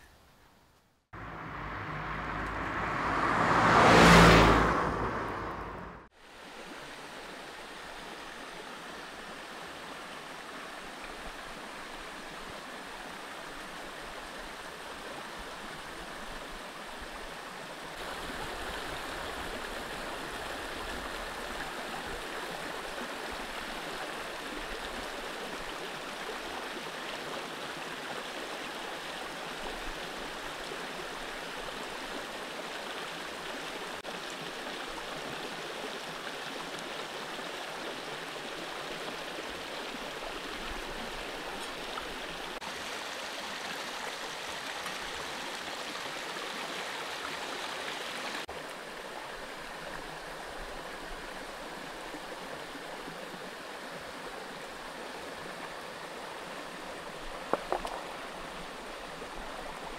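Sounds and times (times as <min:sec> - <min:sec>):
stream rushing over rocks: 0:01.2 - 0:59.9.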